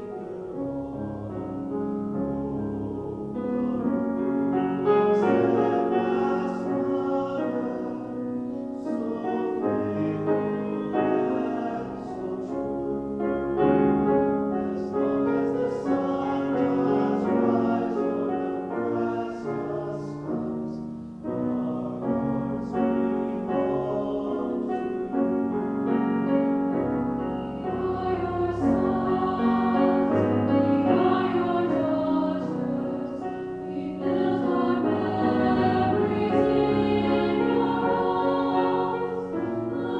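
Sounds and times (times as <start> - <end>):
grand piano: 0.0 - 39.9
mixed choir singing: 0.0 - 39.9.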